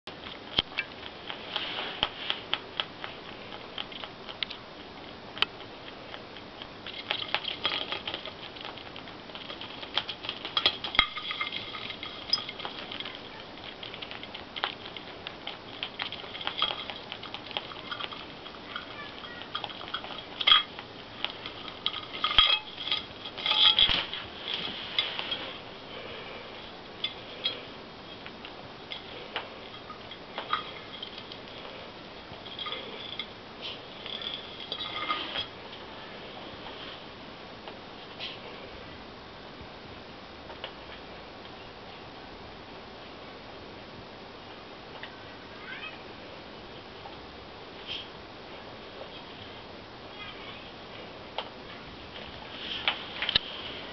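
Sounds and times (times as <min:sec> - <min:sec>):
rabbit crunching hay: 0:00.1 - 0:38.9, 0:46.7 - 0:53.9.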